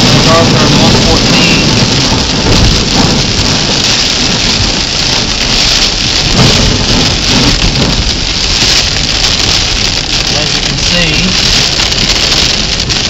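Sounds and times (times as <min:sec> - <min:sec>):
heavy rain downpour: 0:00.0 - 0:13.0
low thunder rumble: 0:00.0 - 0:13.0.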